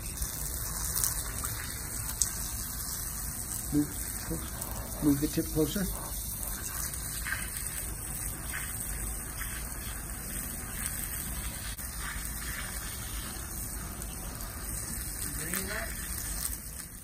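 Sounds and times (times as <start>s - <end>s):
water jet spraying: 0.0s - 17.0s.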